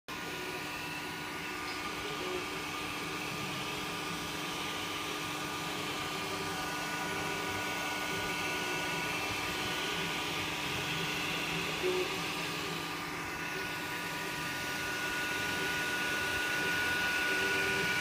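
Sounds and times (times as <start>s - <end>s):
printer mechanical whir: 0.1s - 18.0s
steady whining tones: 0.1s - 18.0s.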